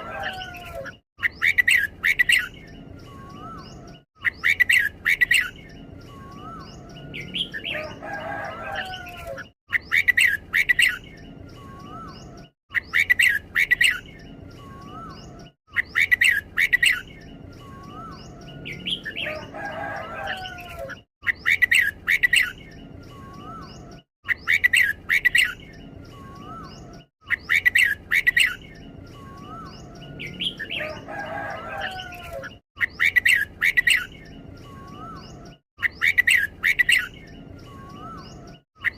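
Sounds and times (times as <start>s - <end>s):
lower warbling bird phrase: 0.0s - 38.9s.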